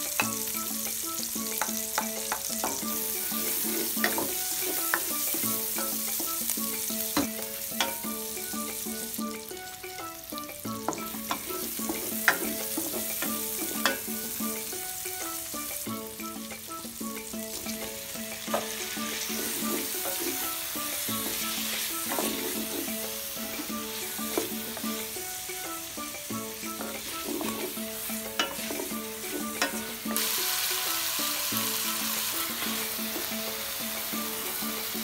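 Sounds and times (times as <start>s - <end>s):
soft background music: 0.0s - 35.0s
vegetables sizzling in oil: 0.0s - 35.0s.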